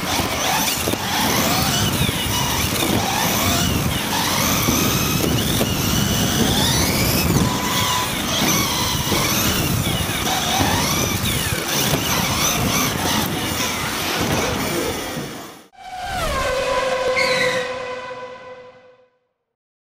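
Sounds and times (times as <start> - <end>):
electric motor whining: 0.0 - 17.8
drivetrain and tyres rumbling: 0.0 - 18.0.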